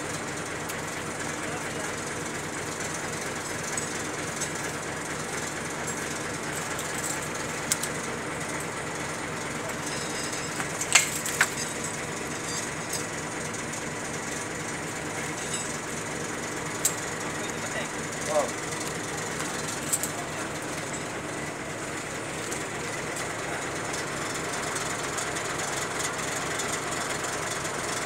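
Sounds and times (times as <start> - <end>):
machinery engine running: 0.0 - 28.0.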